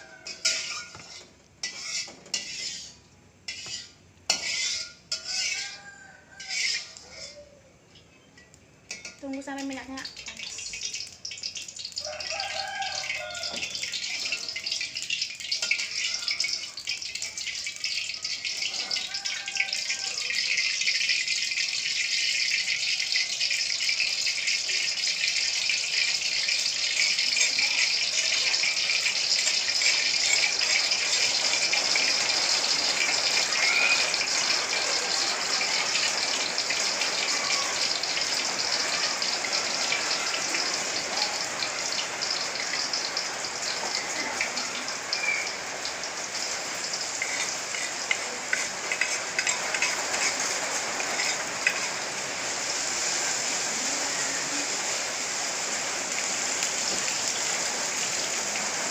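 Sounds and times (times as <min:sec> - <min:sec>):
paste sizzling in hot oil: 0:00.0 - 0:07.4, 0:09.0 - 0:58.9.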